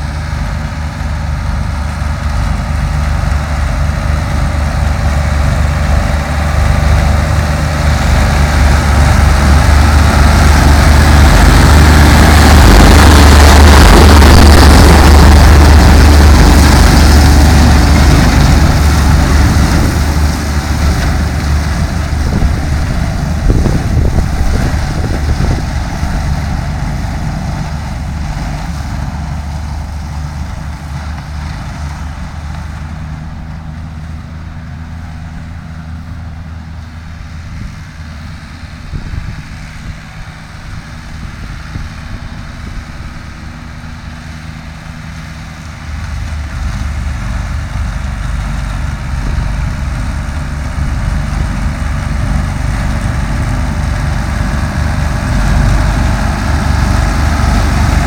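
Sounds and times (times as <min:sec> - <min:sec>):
forage harvester rushing noise: 0:00.0 - 0:58.0
tractor engine drone: 0:00.0 - 0:58.0.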